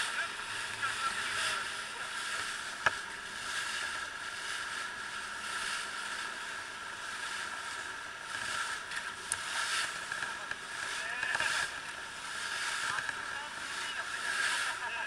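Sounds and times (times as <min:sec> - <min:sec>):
boat engine: 0:00.0 - 0:15.0
water noise: 0:00.0 - 0:15.0.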